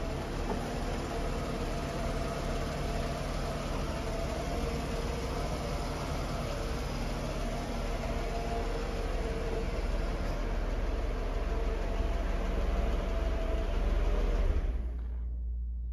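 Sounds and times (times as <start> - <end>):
car mechanical hum: 0.0 - 15.9
faint constant whine: 0.0 - 15.9.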